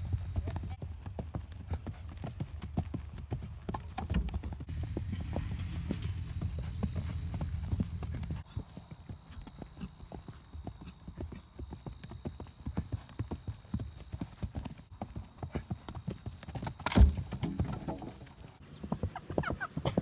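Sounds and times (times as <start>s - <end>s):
horse hoofbeats cantering on turf: 0.0s - 20.0s.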